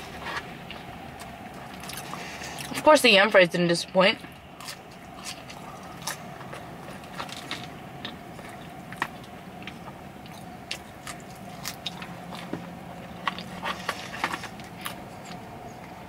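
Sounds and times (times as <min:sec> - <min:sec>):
person chewing: 0:00.0 - 0:02.8, 0:04.2 - 0:16.0
faint steady hum: 0:00.0 - 0:16.0.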